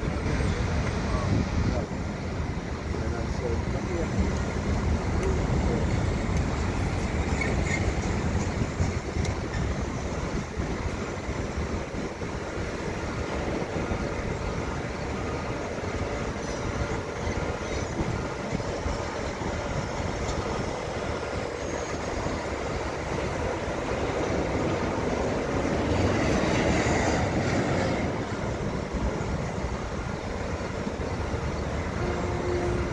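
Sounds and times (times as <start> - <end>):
distant train rail rumble: 0.0 - 32.9.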